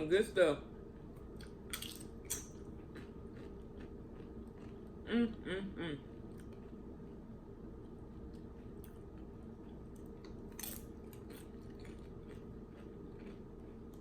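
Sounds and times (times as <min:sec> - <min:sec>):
steady low hum: 0:00.0 - 0:14.0
chewing and wet mouth sounds: 0:01.2 - 0:05.1, 0:06.1 - 0:14.0.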